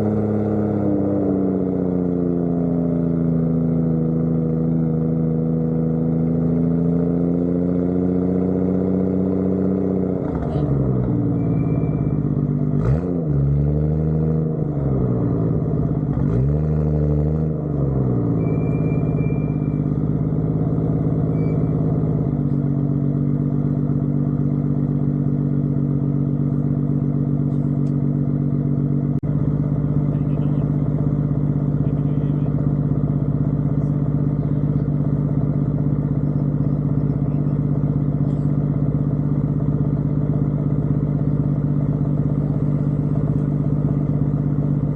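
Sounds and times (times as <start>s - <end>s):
car engine droning: 0.0s - 44.9s.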